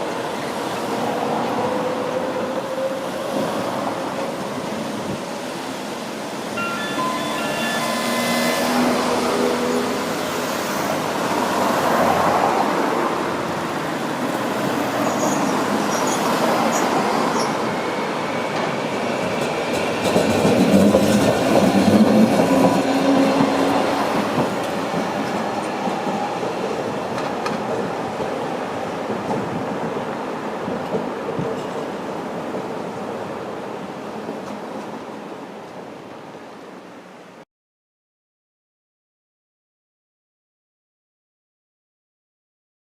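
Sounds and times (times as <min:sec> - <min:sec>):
streetcar wheels on rail: 0:00.0 - 0:37.2.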